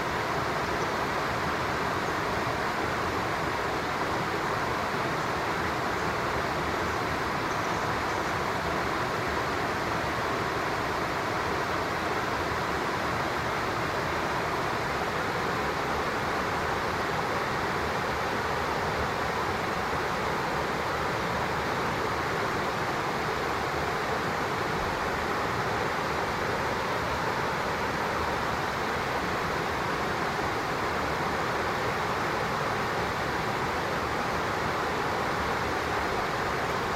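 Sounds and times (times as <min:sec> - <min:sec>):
river rushing: 0:00.0 - 0:36.9.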